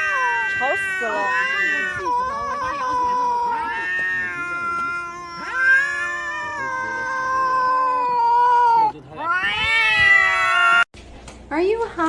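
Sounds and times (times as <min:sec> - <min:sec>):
cat yowling: 0:00.0 - 0:10.9.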